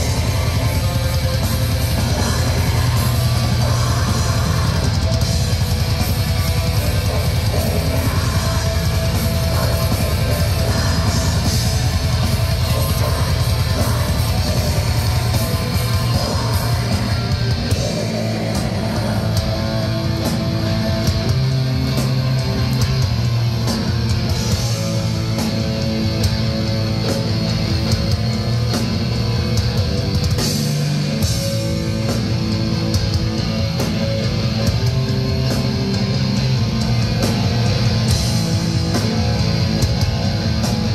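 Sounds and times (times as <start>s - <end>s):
distorted guitars: 0.0s - 40.9s
fast dense drumming: 0.0s - 40.9s.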